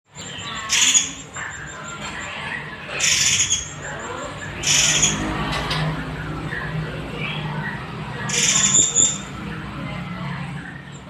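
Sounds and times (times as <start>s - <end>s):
raspy bird calls: 0.1s - 9.4s.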